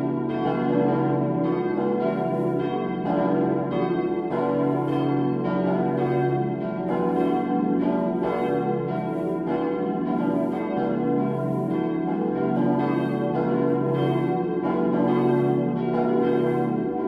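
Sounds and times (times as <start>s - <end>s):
church bells pealing: 0.0s - 17.0s
low church bell: 0.0s - 17.0s.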